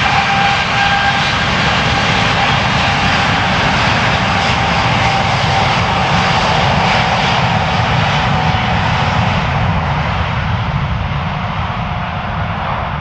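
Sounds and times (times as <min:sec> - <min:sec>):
jet engines roaring and whining: 0:00.0 - 0:13.0.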